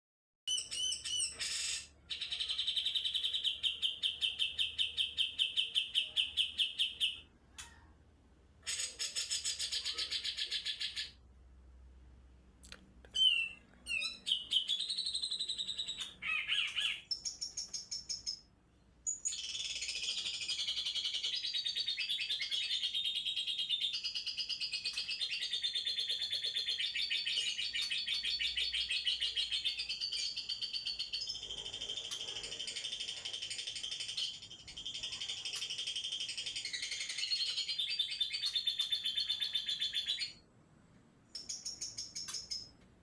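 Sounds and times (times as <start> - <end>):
bird whistled song: 0.5 - 7.3, 13.2 - 40.4, 41.3 - 42.7
rapid chattering birdsong: 0.5 - 7.8, 8.6 - 11.2, 13.2 - 40.5, 41.3 - 42.8.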